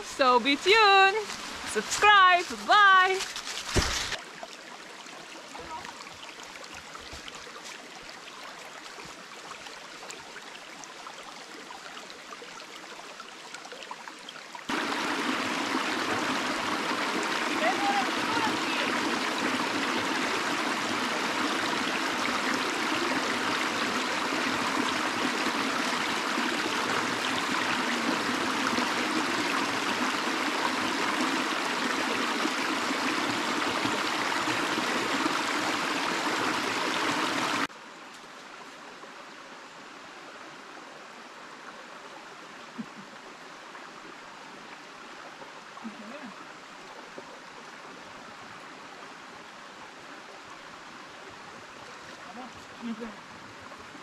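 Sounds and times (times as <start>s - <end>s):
gentle stream flow: 0.0s - 54.0s
stream rushing over rocky cascade: 0.0s - 54.0s.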